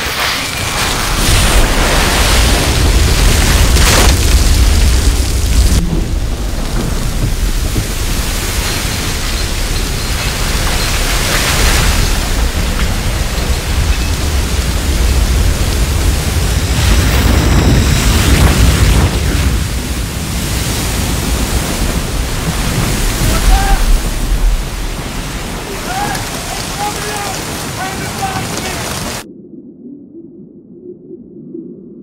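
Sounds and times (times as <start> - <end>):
gas and oil gushing hiss: 0.0 - 29.2
deep rumble: 0.1 - 32.0.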